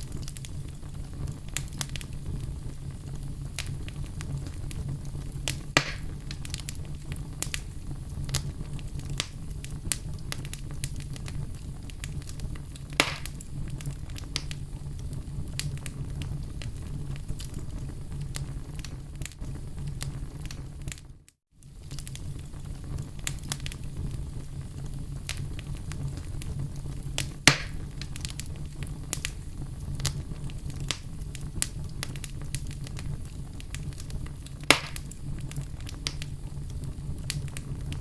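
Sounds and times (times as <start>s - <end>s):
fire crackling and popping: 0.0s - 38.0s
fire rumbling in a fireplace: 0.0s - 38.0s.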